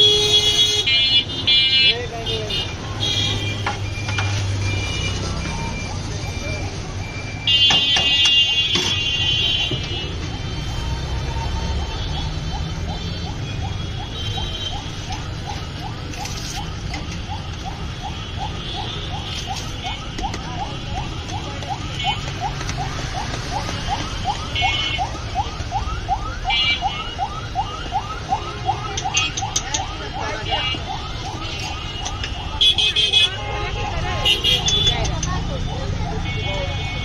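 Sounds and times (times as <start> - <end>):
street noise hum: 0.0 - 37.0.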